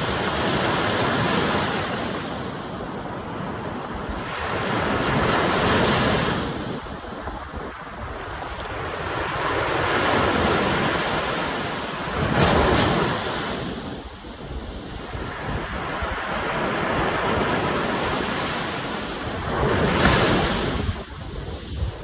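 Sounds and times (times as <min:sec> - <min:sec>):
waves breaking on shore: 0:00.0 - 0:22.0
wind rumbling on microphone: 0:00.0 - 0:22.0.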